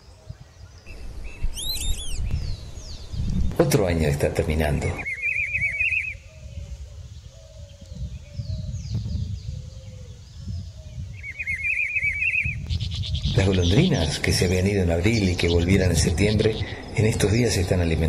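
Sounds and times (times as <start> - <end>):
bird singing whistled notes: 0.0 - 3.5, 5.0 - 17.2.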